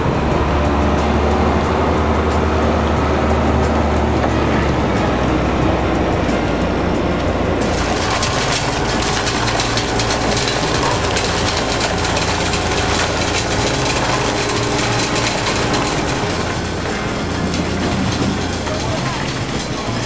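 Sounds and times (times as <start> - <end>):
concrete pump running: 0.0 - 20.0
rakes working wet concrete: 0.0 - 20.0.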